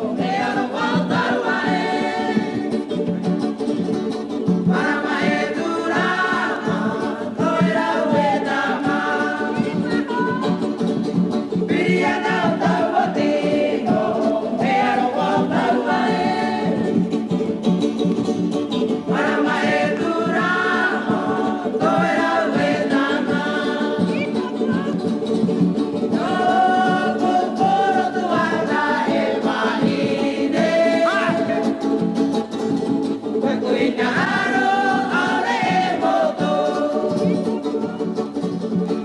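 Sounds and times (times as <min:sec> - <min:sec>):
group of voices singing: 0:00.0 - 0:39.0.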